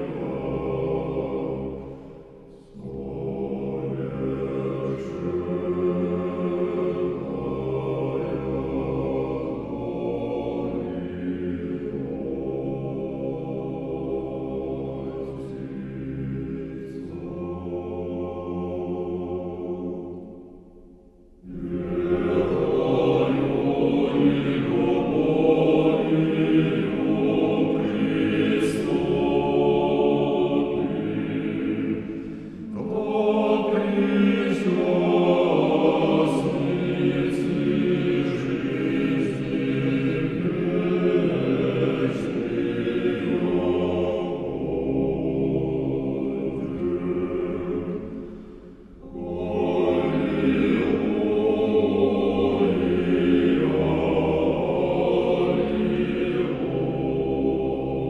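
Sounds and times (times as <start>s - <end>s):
church choir chanting: 0.0s - 58.0s.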